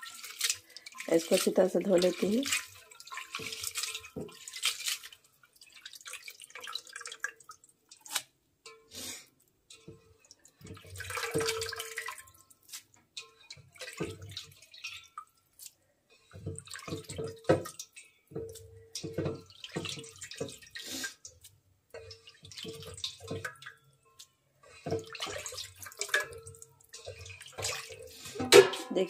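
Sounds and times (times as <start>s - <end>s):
water splashing and dripping: 0.0s - 8.4s, 9.3s - 29.0s.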